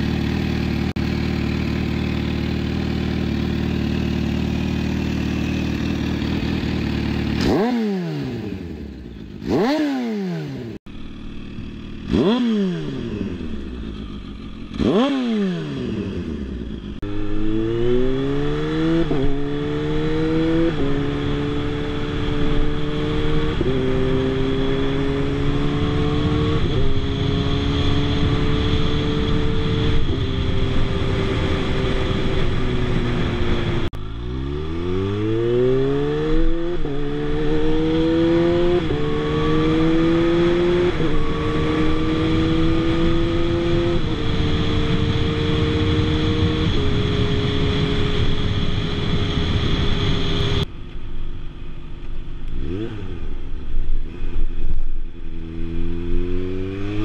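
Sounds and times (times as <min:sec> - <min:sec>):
motorcycle accelerating through gears: 0:00.0 - 0:50.7, 0:52.0 - 0:57.0.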